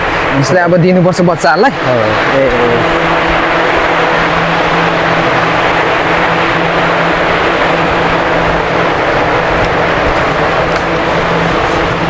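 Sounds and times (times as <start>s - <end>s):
loud machine humming: 0.0s - 12.0s.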